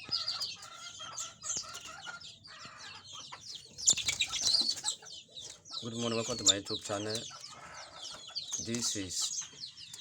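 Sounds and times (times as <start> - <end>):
canary singing: 0.0 - 10.0.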